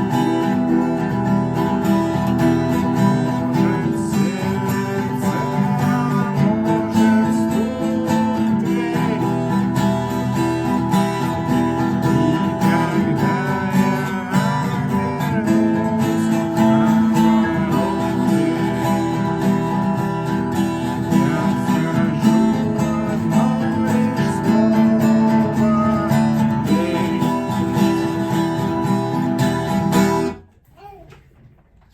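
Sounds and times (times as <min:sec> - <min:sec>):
acoustic guitar strumming: 0:00.0 - 0:30.5.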